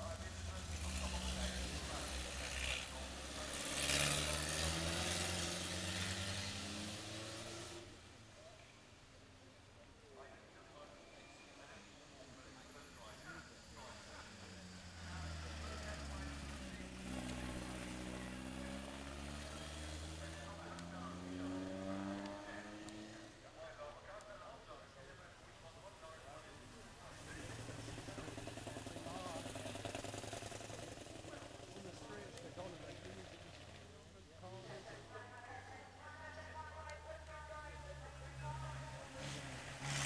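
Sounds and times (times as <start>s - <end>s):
racing car engines passing: 0.0s - 8.3s, 10.8s - 23.9s, 25.7s - 40.0s.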